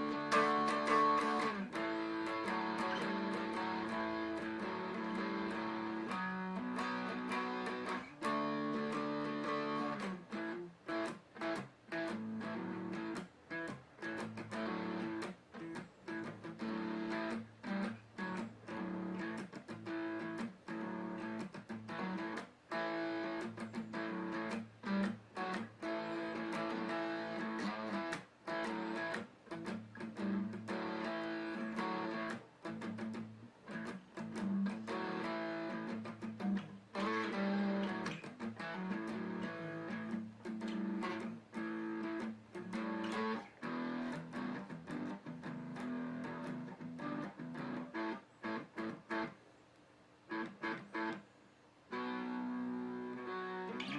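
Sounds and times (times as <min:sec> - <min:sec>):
guitar playing: 0:00.0 - 0:49.4, 0:50.3 - 0:51.2, 0:51.9 - 0:53.9.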